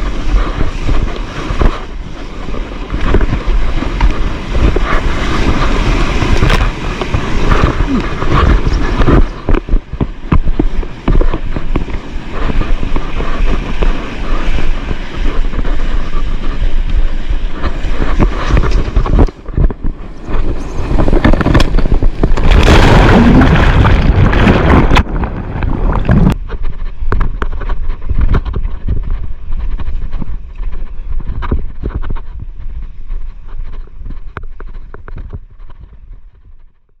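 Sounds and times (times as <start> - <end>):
breaking surf: 0.0 - 34.8
wind buffeting microphone: 0.0 - 37.0.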